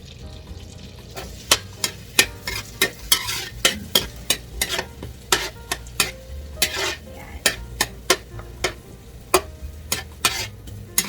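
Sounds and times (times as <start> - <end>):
onions sizzling in a pan: 0.0 - 11.0
utensil scraping a pan: 1.2 - 11.0.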